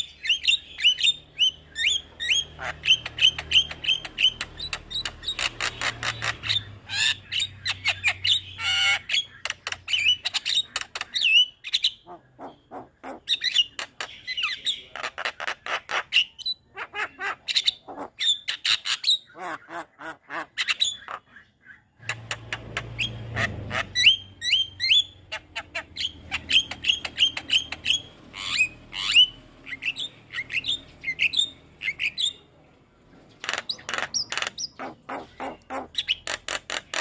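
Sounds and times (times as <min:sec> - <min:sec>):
myna bird singing: 0:00.0 - 0:37.0.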